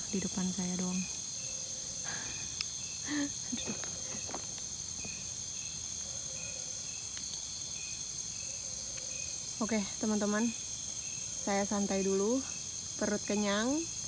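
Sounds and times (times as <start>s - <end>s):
high-pitched insect trill: 0.0s - 14.0s
insect chirps: 0.0s - 14.0s.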